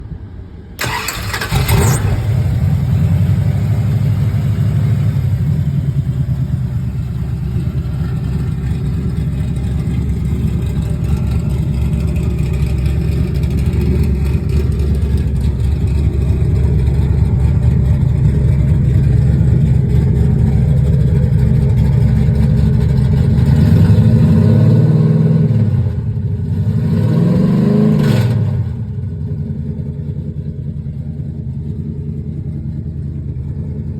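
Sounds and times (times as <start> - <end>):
car engine running and revving: 1.5 - 33.9.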